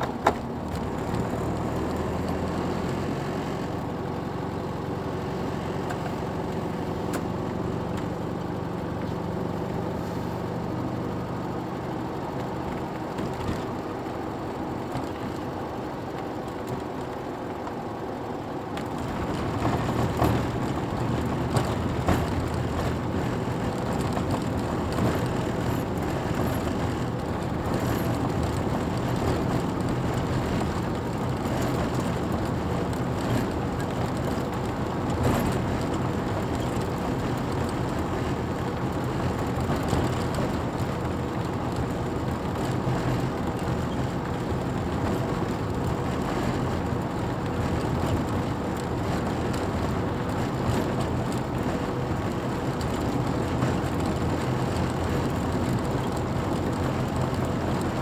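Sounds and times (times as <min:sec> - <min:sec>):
car engine running: 0:00.0 - 0:58.0
road noise: 0:00.0 - 0:58.0.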